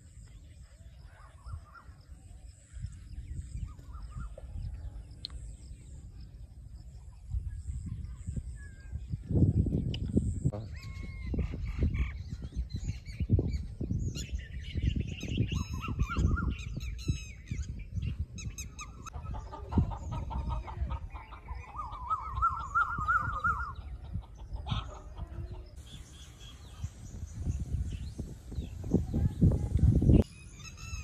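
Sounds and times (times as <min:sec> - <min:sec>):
birds chirping and warbling: 0:00.0 - 0:31.0.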